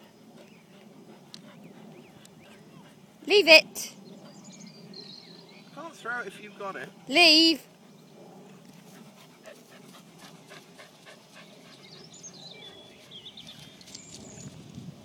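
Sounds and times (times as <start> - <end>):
dog panting quickly: 0.0 - 5.0, 5.9 - 13.7.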